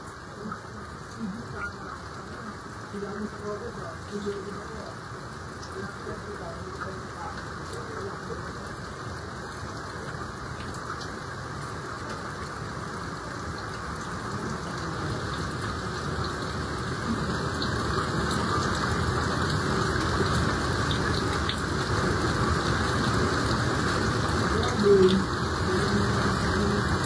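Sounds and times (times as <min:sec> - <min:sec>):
water rushing: 0:00.0 - 0:27.0.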